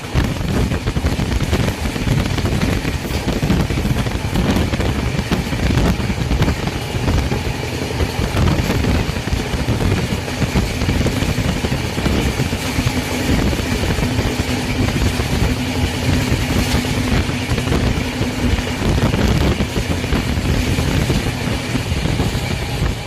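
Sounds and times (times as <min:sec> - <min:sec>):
steady low hum: 0:00.0 - 0:23.0
train rumbling at speed: 0:00.0 - 0:23.0.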